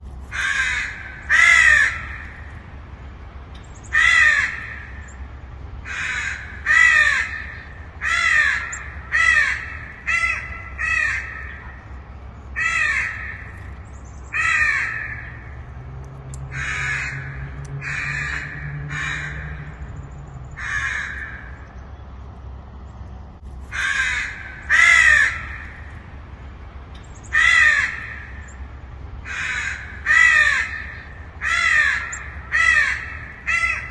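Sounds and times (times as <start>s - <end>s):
crows cawing: 0.3s - 2.7s, 3.9s - 11.9s, 12.6s - 15.6s, 16.4s - 19.9s, 20.6s - 21.8s, 23.7s - 26.1s, 27.2s - 33.9s.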